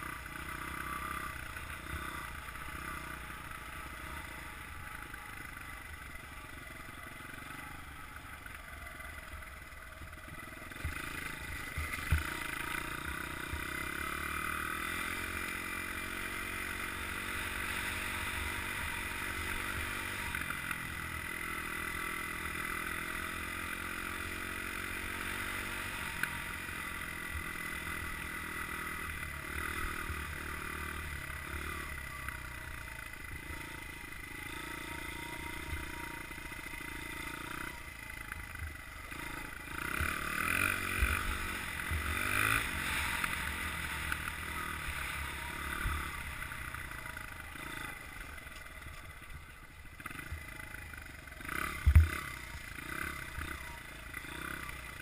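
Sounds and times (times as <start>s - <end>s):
dirt bike engine revving: 0.0s - 9.3s, 10.0s - 49.0s, 49.9s - 55.0s.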